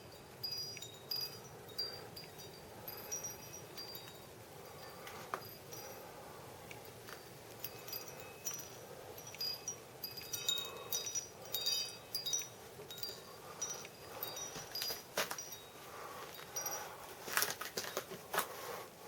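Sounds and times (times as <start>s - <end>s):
wind chimes ringing: 0.0s - 18.1s.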